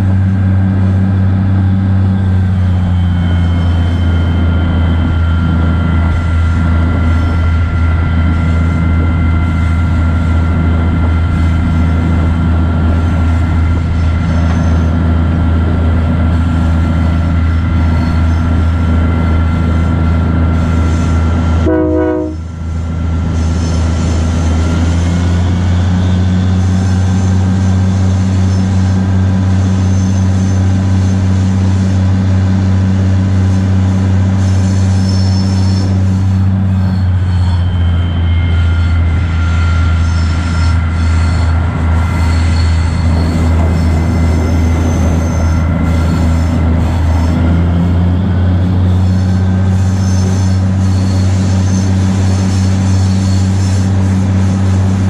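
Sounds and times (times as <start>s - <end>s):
locomotive engine drone: 0.0s - 55.0s
thin steady whine: 0.0s - 55.0s.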